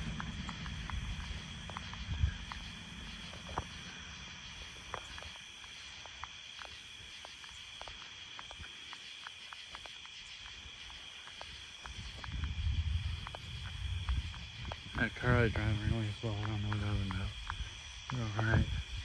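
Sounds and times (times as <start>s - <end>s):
faint ticks: 0.0s - 19.0s
night insects chirring: 0.0s - 19.0s.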